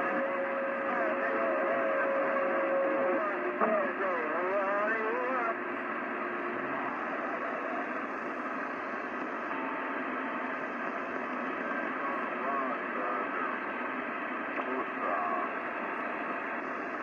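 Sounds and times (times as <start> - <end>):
garbled radio transmission: 0.0 - 17.0
radio static hiss: 0.0 - 17.0.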